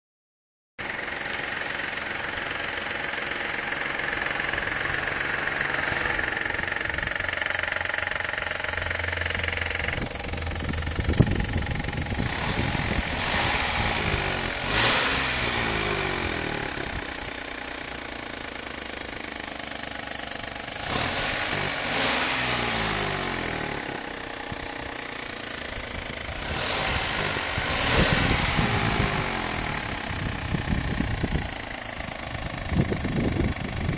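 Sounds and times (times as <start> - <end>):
car engine idling and revving: 0.8 - 33.9.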